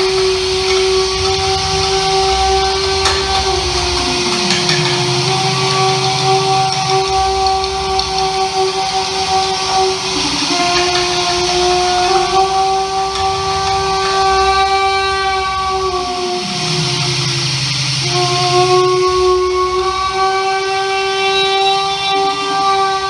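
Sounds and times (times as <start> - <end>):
dense hiss: 0.0 - 23.0
held drone tones: 0.0 - 23.0
low tone sliding down: 0.0 - 23.0.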